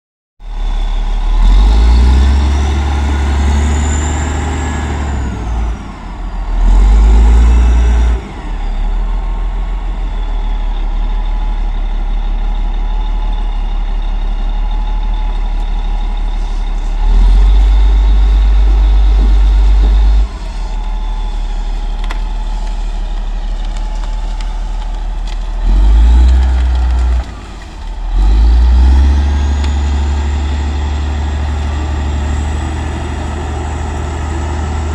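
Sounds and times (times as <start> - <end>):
heavy machinery diesel engine: 0.4 - 34.9.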